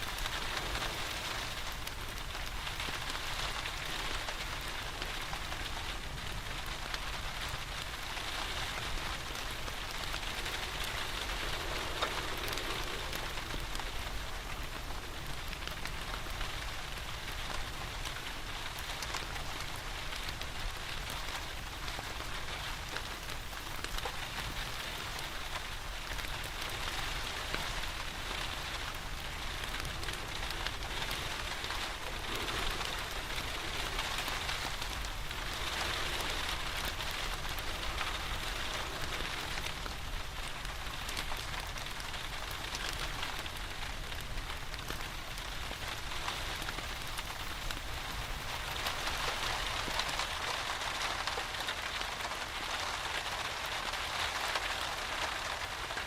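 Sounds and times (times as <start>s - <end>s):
rain pattering: 0.0s - 56.0s
wood fire crackling: 0.0s - 56.0s.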